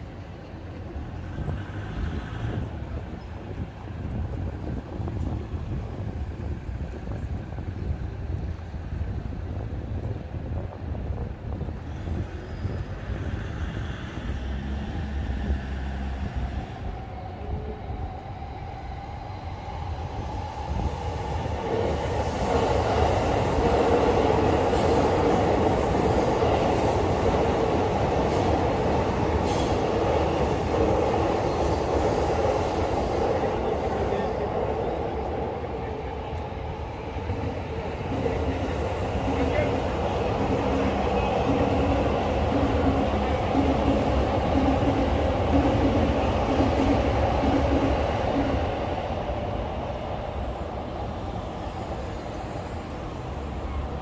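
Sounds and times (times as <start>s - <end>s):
street noise: 0.0s - 54.0s
train running past: 0.0s - 54.0s.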